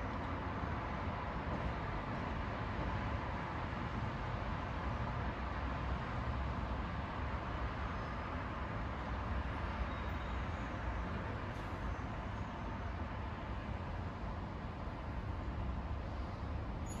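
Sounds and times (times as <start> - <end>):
distant street traffic hum: 0.0 - 17.0.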